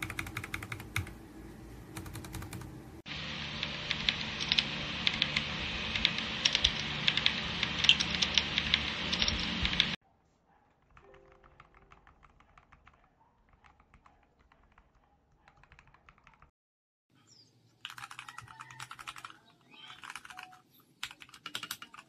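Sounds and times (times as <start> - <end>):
mechanical keyboard typing: 0.0 - 1.2, 2.0 - 2.7, 3.9 - 9.9, 10.8 - 16.5, 17.8 - 22.0.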